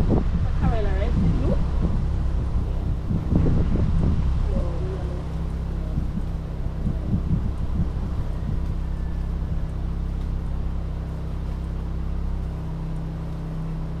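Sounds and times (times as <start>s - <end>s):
car engine running: 0.0s - 14.0s
uneven low rumbling: 0.0s - 14.0s.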